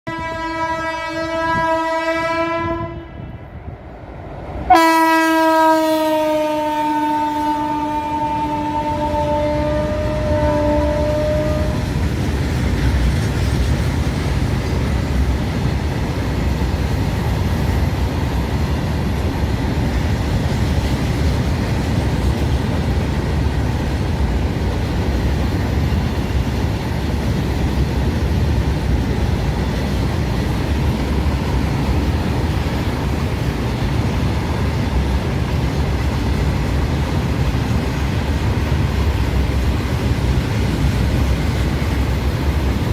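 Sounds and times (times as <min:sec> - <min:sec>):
freight train rumbling past: 0:00.1 - 0:42.9.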